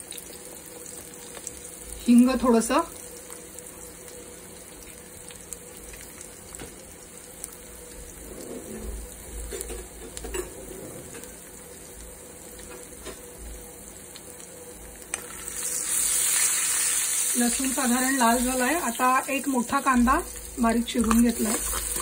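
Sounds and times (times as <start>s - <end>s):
garlic frying in hot oil: 0.0s - 22.0s.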